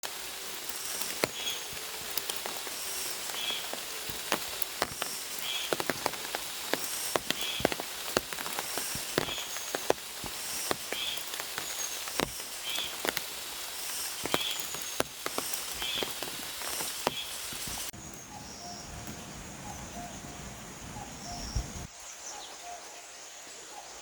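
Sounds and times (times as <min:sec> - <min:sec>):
raindrop hits: 0:00.0 - 0:21.9
rain hiss: 0:00.0 - 0:24.0.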